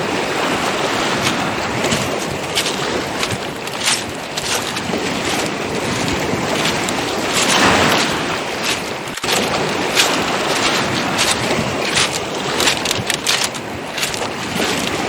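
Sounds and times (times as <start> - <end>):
sea waves washing: 0.0 - 15.0
footsteps on pebbles: 0.4 - 15.0.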